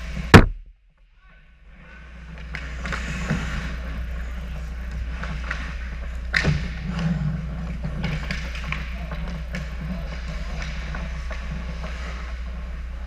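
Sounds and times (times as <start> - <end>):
steady low hum: 0.0 - 13.0
skates scraping ice: 1.7 - 13.0
sticks and puck clacking: 2.1 - 13.0.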